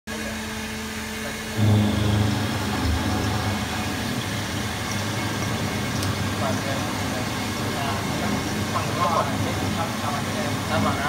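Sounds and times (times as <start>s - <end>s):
milling machine running: 0.1s - 11.0s.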